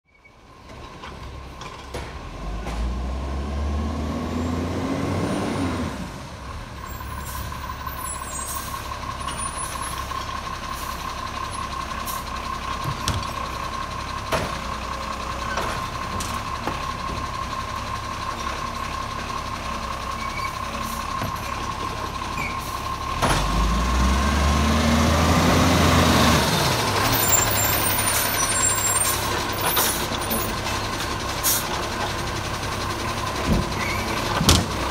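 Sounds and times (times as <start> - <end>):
garbage truck diesel engine: 0.1 - 34.9.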